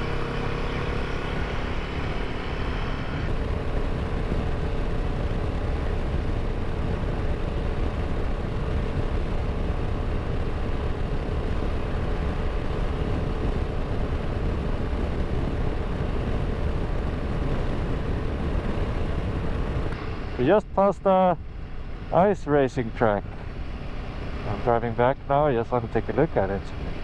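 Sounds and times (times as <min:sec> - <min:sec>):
motorcycle engine cruising: 0:00.0 - 0:27.0
rushing wind noise: 0:00.0 - 0:27.0.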